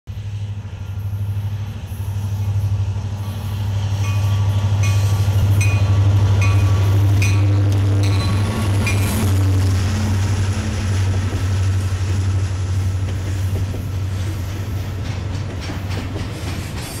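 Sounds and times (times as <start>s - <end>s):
locomotive engine drone: 0.1s - 17.0s.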